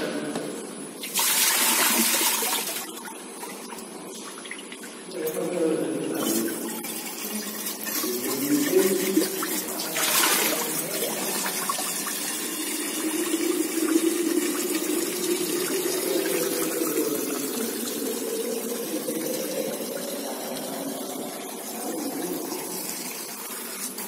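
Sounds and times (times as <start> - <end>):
water pouring into a bottle: 1.0 - 24.0.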